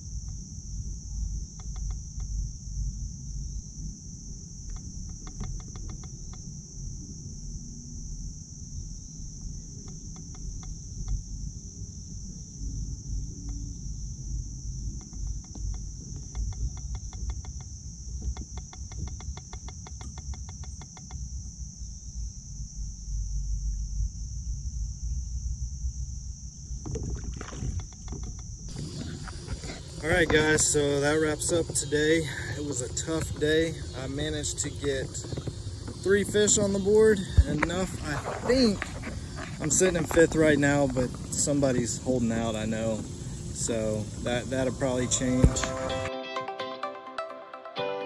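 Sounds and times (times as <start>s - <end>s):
wind and water rumble: 0.0s - 20.4s, 21.3s - 46.0s
insects chirping: 0.0s - 46.1s.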